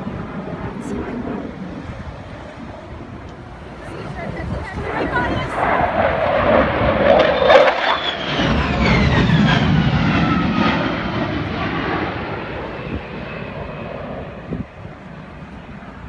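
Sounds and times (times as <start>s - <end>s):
jet flying past: 0.0s - 16.0s.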